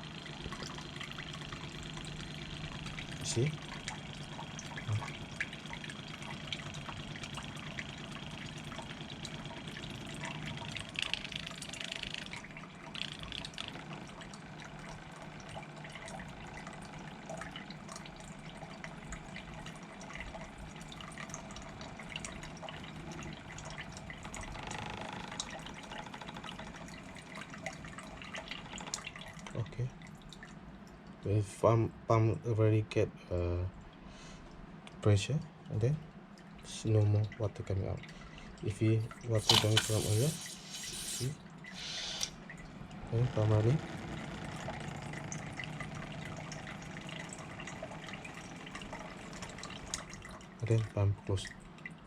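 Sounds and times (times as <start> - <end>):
pump humming: 0.0 - 30.5, 36.7 - 52.0
water trickling and dripping: 0.0 - 31.3, 33.8 - 52.0.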